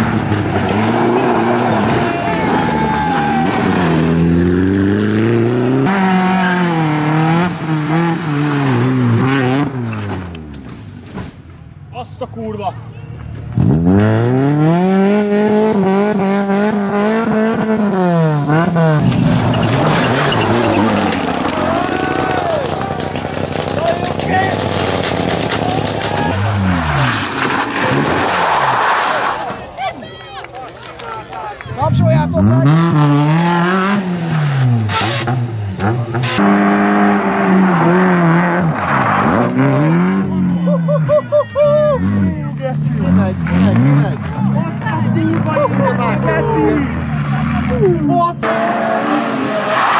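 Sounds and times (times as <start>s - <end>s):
car engine revving: 0.0s - 11.2s, 13.3s - 29.6s, 31.7s - 49.9s.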